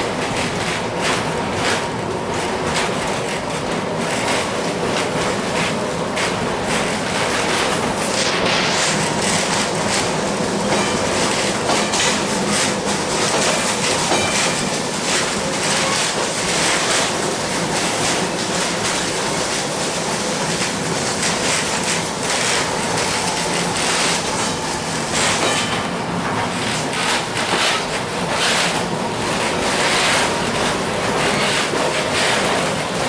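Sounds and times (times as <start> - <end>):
streetcar wheels rumbling on rails: 0.0 - 33.0.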